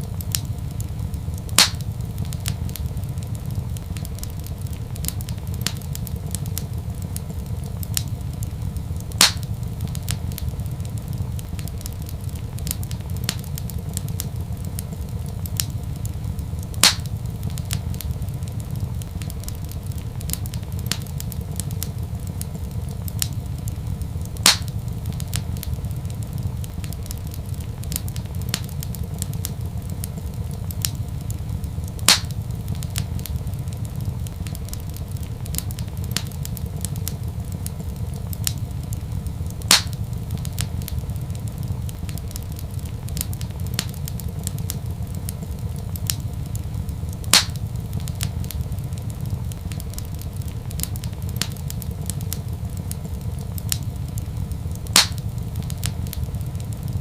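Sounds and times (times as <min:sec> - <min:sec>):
steady low rumble: 0:00.0 - 0:57.0
wood fire crackling and popping: 0:00.0 - 0:57.0.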